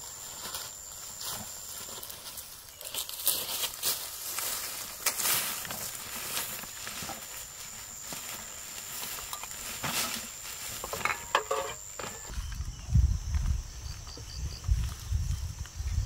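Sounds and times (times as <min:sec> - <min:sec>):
leaves and plastic rustling: 0:00.0 - 0:16.0.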